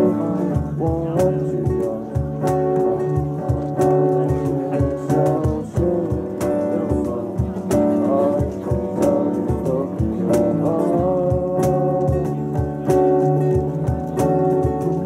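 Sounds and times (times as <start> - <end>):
acoustic guitars strumming: 0.0 - 15.0
cajon beat: 0.0 - 15.0
electric bass: 0.0 - 15.0
man singing: 0.0 - 15.0.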